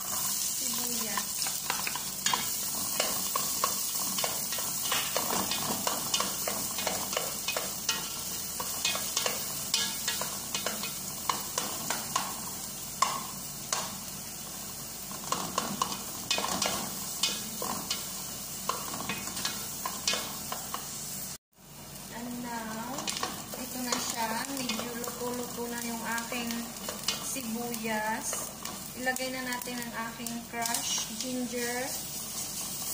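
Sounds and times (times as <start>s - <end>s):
onions sizzling in hot oil: 0.0s - 32.9s.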